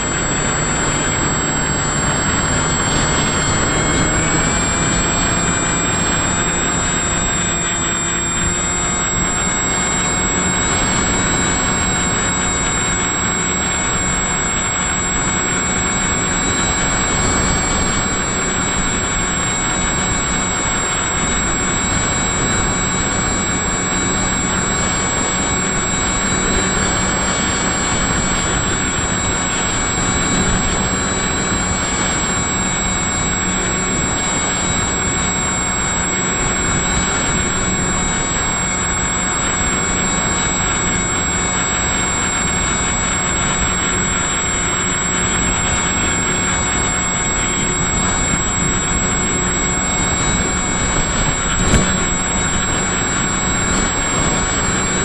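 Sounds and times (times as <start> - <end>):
model aircraft motor whining: 0.0 - 55.0
wind rush: 0.0 - 55.0.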